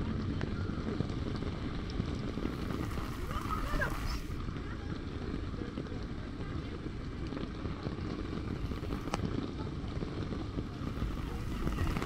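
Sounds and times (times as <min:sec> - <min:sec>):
heavy rain on a street: 0:00.0 - 0:12.0
low rumble of traffic: 0:00.0 - 0:12.0
wind on microphone: 0:00.0 - 0:12.0.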